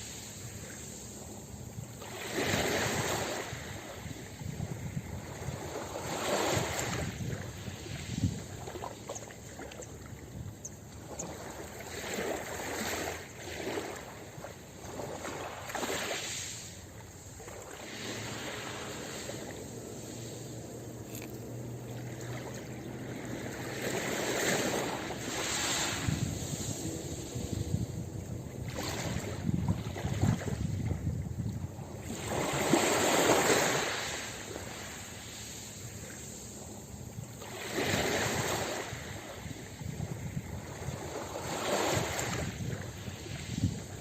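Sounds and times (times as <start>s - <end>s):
ocean waves breaking on beach: 0.0s - 44.0s.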